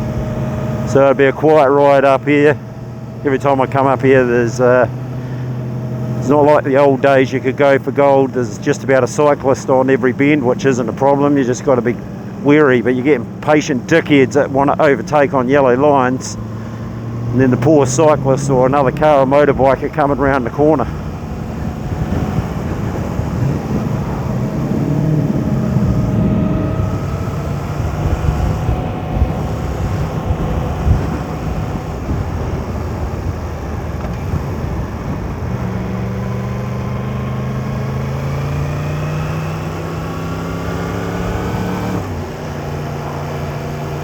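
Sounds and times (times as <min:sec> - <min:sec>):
motorcycle engine accelerating: 0:00.0 - 0:44.0
wind and road noise: 0:00.0 - 0:44.0.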